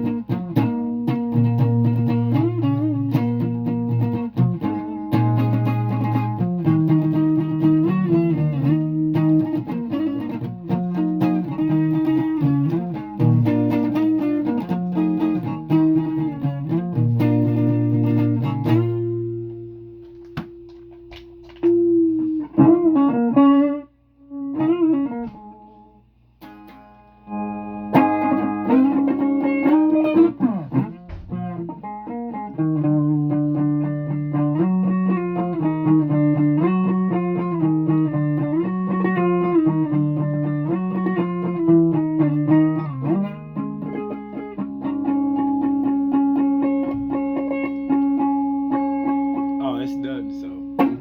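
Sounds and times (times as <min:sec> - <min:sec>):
plucked string instrument: 0:00.0 - 0:23.2, 0:26.4 - 0:51.0.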